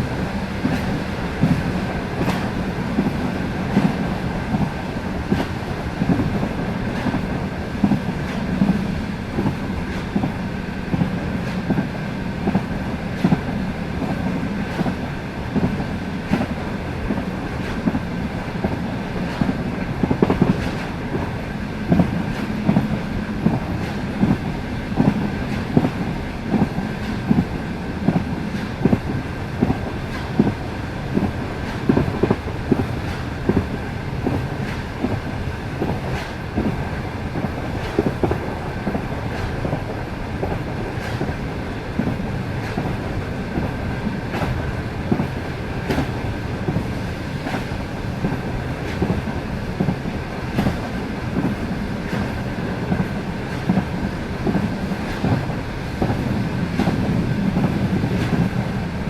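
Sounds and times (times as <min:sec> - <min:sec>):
train rolling rumble: 0:00.0 - 0:59.0
train wheels clicking over joints: 0:00.0 - 0:59.0.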